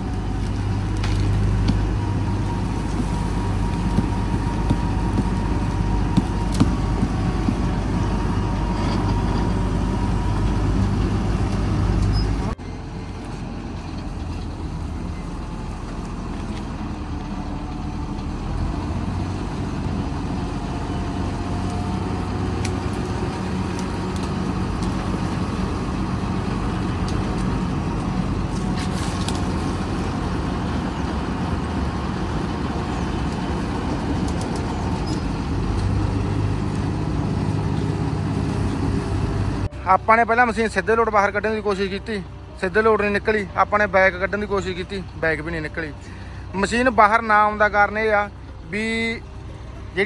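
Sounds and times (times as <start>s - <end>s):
diesel engine straining: 0.0s - 50.0s.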